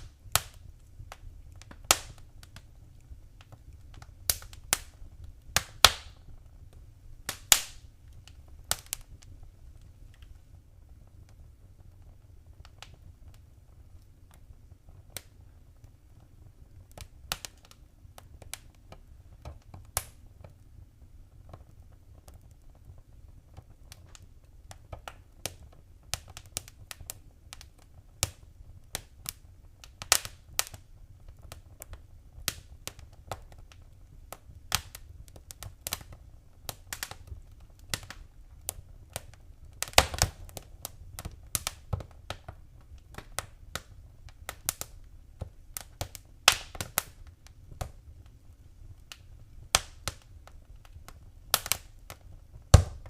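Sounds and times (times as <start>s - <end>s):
low rumble of burning: 0.0s - 53.0s
wood fire crackling: 0.0s - 53.0s.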